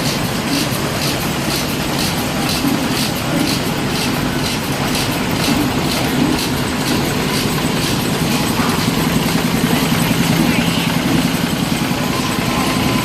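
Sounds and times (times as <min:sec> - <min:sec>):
stationary engine humming: 0:00.0 - 0:13.0.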